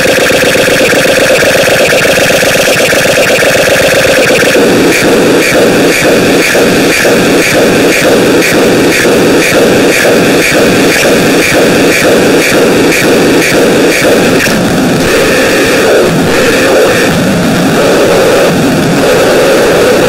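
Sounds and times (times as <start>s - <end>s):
pulsing static noise: 0.0s - 20.0s.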